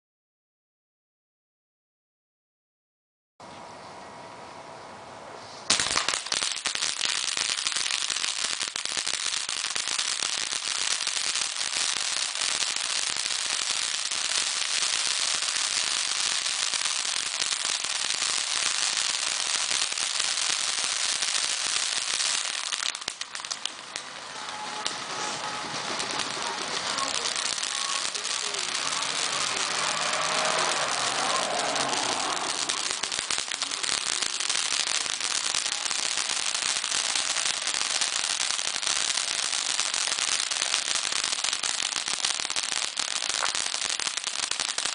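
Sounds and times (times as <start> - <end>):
firework fountain hissing crackle: 5.6 - 44.9.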